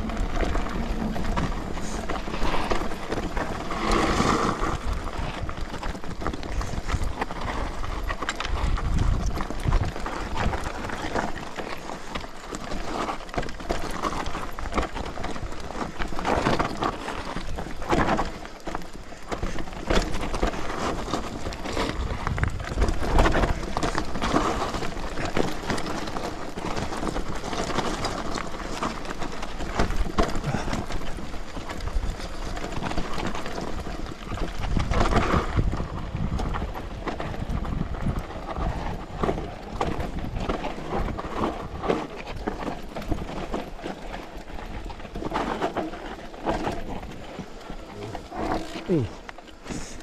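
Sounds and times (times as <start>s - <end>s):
bike clattering and rattling: 0.0s - 50.0s
tyres crunching over loose stones: 0.0s - 50.0s.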